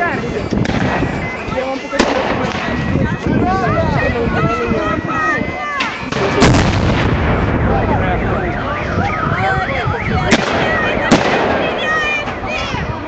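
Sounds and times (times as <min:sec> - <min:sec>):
crowd shouting: 0:00.0 - 0:13.0.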